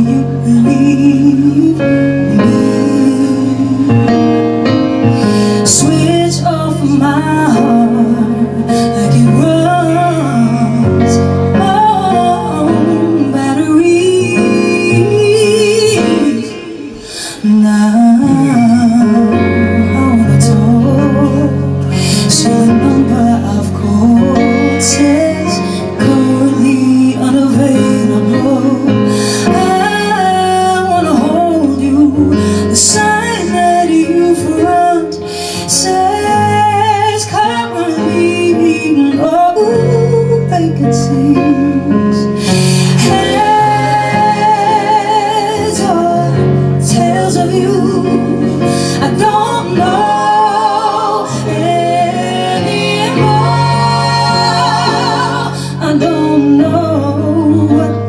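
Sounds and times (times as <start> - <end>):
pop-soul band playing: 0.0 - 58.0
woman singing lead: 0.0 - 58.0.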